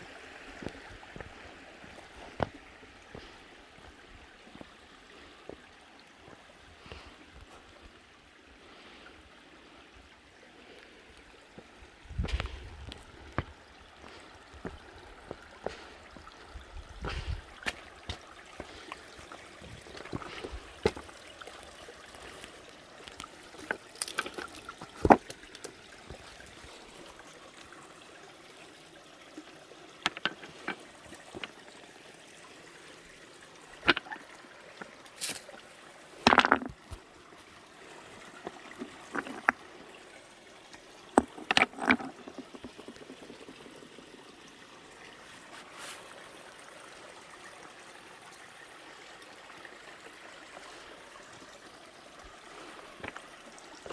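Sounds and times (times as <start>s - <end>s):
stream trickling over stones: 0.0s - 53.9s.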